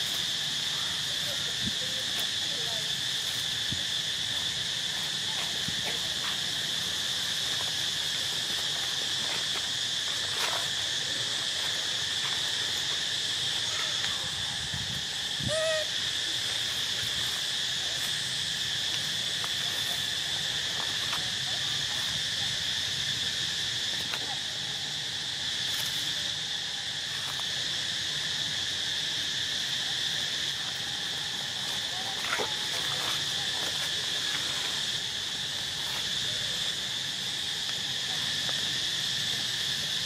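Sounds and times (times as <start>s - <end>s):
insect chorus drone: 0.0s - 40.0s.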